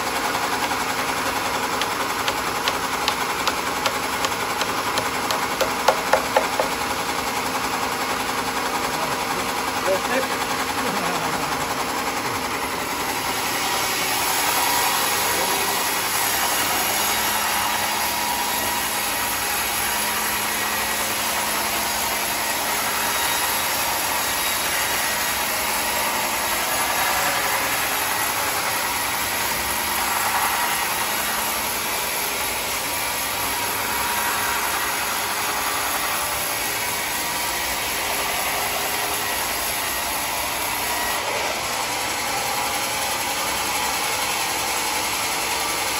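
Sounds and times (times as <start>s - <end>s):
band sawmill sawing wood: 0.0s - 45.9s.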